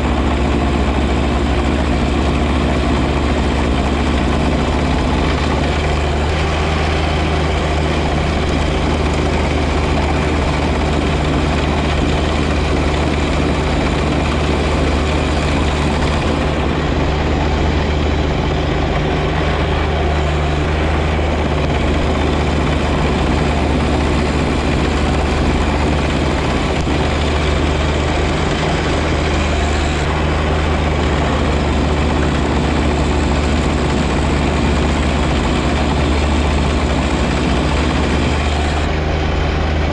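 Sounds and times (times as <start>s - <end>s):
snow blower running: 0.0s - 39.9s
tractor diesel engine running: 0.0s - 39.9s.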